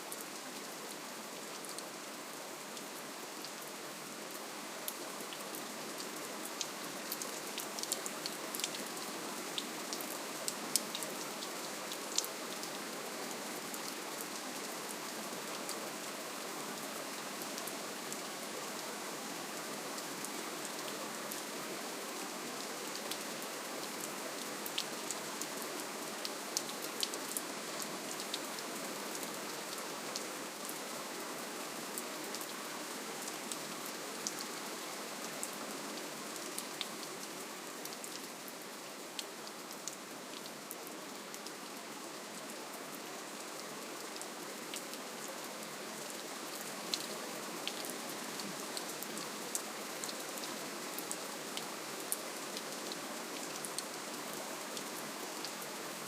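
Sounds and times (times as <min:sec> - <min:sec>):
gentle rainfall hiss: 0:00.0 - 0:56.0.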